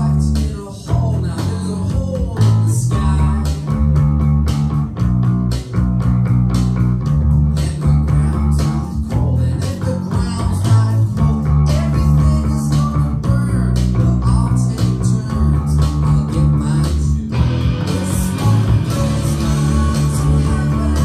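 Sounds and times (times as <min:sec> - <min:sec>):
backing rock track: 0:00.0 - 0:21.0
electric bass guitar line: 0:00.0 - 0:21.0.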